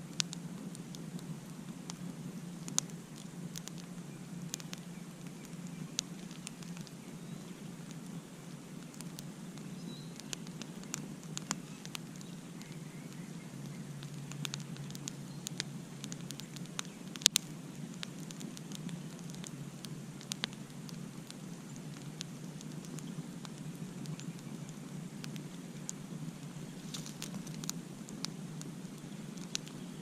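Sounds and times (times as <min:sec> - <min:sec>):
wood campfire crackling: 0:00.0 - 0:30.0.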